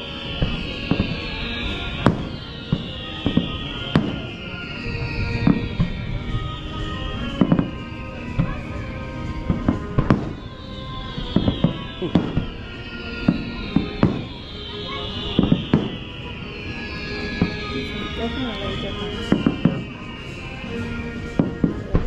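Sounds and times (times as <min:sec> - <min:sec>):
music: 0:00.0 - 0:22.0.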